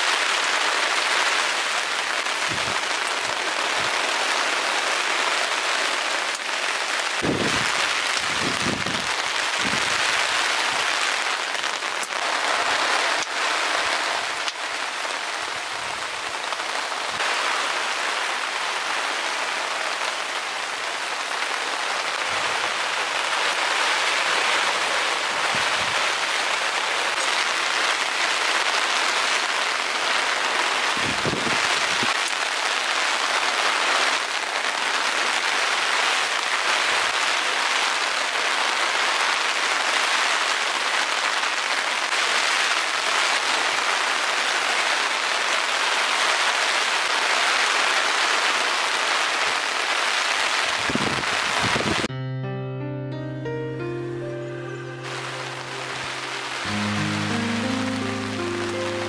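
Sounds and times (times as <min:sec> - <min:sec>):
heavy rain falling: 0:00.0 - 0:52.1, 0:54.7 - 0:59.0.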